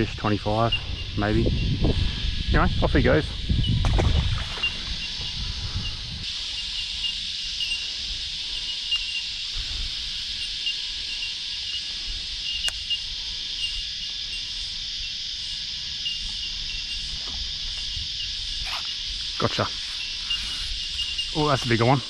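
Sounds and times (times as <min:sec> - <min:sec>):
cicadas singing: 0:00.0 - 0:22.0.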